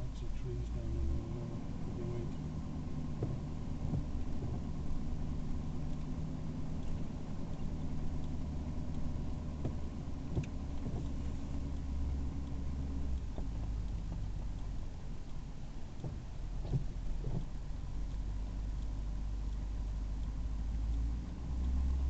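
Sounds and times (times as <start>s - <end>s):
vehicle engine and road hum: 0.0s - 22.0s
faint clicks: 0.2s - 22.0s.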